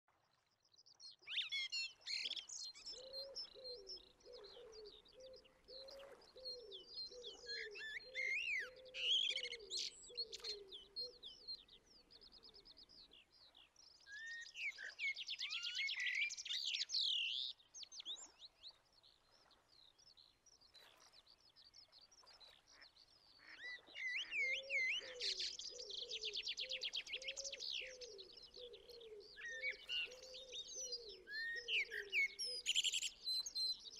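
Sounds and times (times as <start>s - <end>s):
birds singing whistles and trills: 0.4s - 33.9s.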